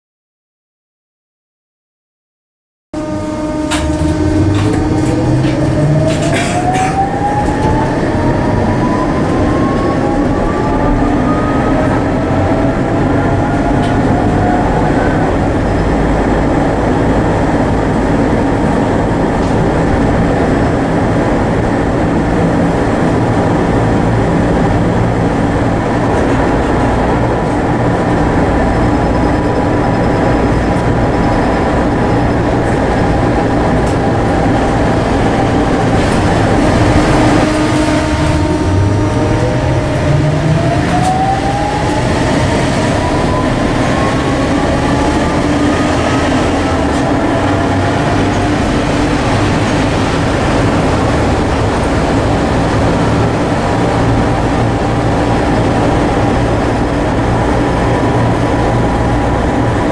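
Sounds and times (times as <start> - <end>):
tram wheels rumbling: 3.0 - 59.9.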